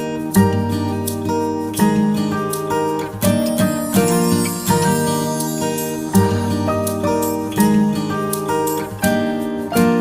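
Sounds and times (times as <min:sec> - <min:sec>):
acoustic guitar plucked and strummed: 0:00.0 - 0:10.0.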